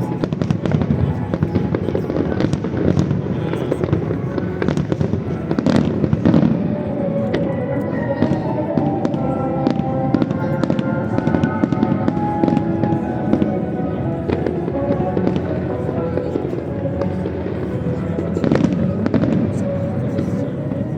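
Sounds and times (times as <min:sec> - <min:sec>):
fireworks bursting and crackling: 0:00.0 - 0:20.7
music playing: 0:00.0 - 0:20.9.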